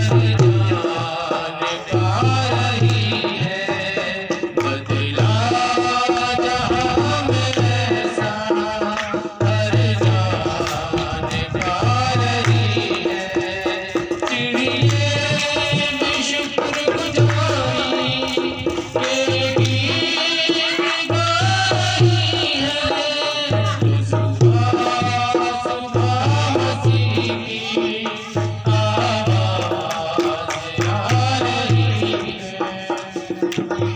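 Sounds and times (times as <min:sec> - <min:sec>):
hand drums beat: 0:00.0 - 0:33.9.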